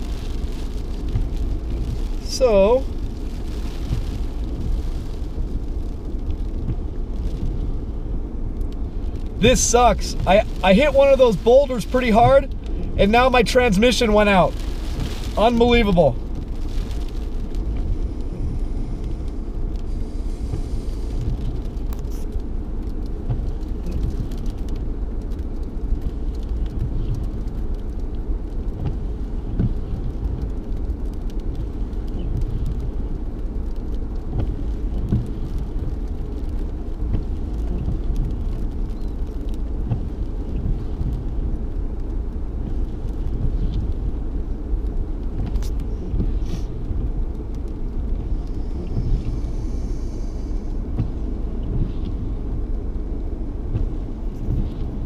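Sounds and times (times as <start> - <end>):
low rumble inside car: 0.0 - 55.0.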